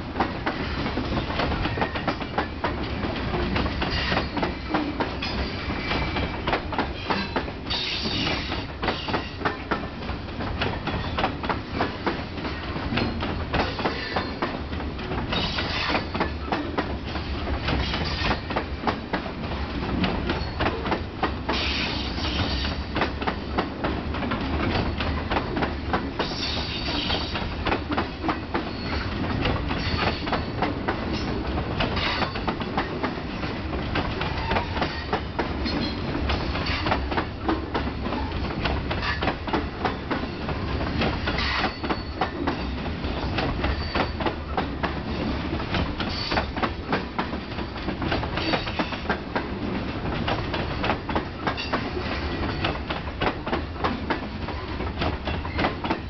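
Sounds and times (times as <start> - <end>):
low train rumble: 0.0 - 56.0
wheels clicking over rail joints: 0.2 - 56.0.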